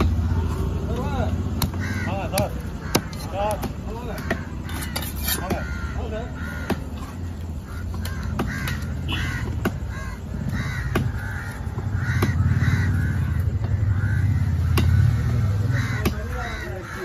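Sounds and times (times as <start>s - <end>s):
crows cawing: 0.9s - 17.0s.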